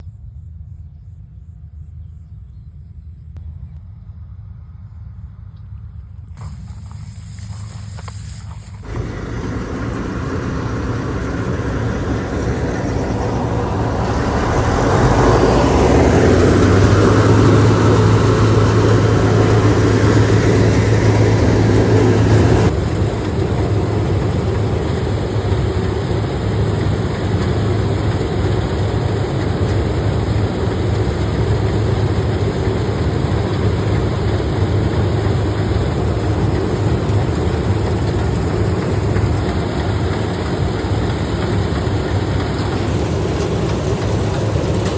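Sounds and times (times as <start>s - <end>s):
harvester engine humming: 0.0s - 44.9s.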